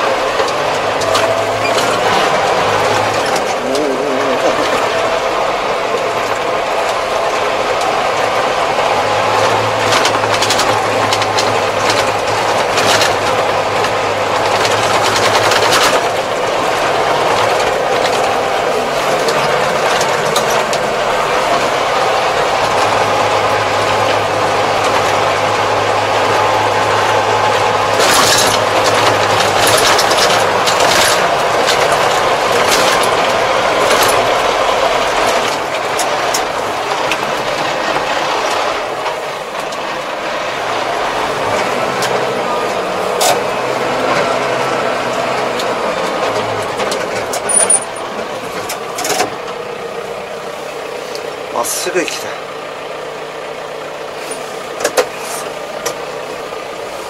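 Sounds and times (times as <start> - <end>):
cab rattles and clicks: 0.0 - 52.3, 54.2 - 57.0
tractor engine drone: 0.0 - 57.0.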